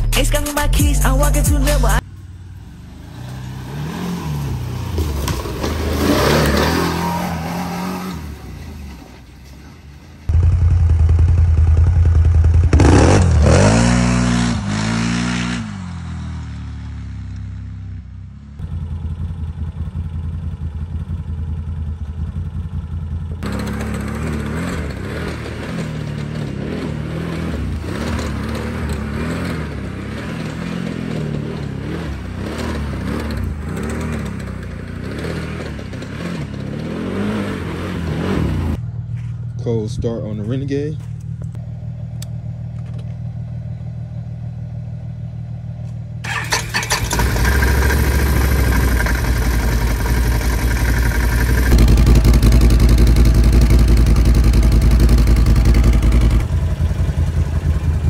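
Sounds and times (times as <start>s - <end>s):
atv engine revving: 1.8s - 9.2s, 10.3s - 39.3s, 45.4s - 58.0s.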